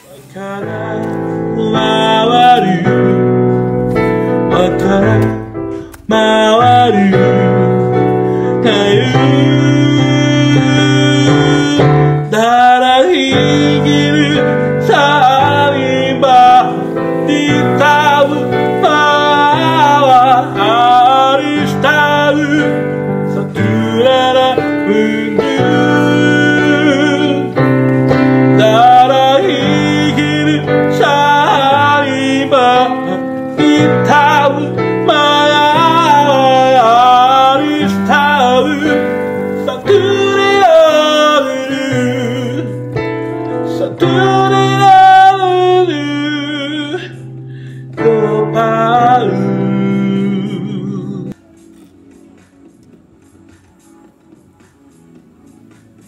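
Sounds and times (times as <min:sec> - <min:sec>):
song with singing over chords: 0:00.0 - 0:56.0.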